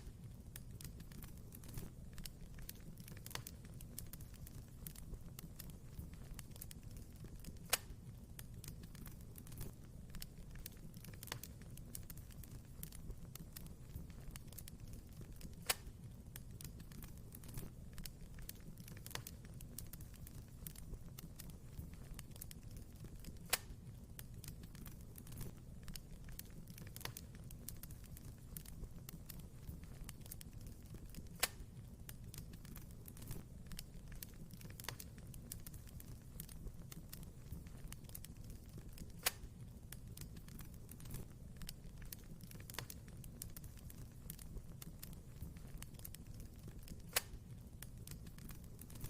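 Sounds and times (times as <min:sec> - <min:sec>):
low rumble of flames: 0:00.0 - 0:49.0
wood fire crackling: 0:00.0 - 0:49.0.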